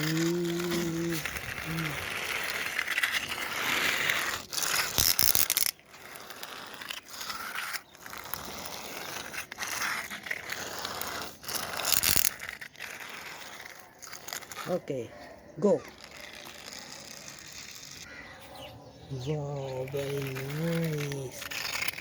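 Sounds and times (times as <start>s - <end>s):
toy vehicle wheels grinding: 0.0s - 22.0s.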